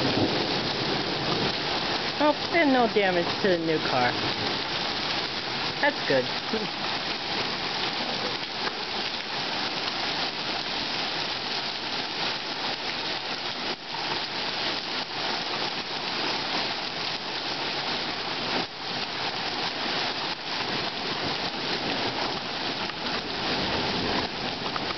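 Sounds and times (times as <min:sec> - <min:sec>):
rain pattering: 0:00.0 - 0:24.9.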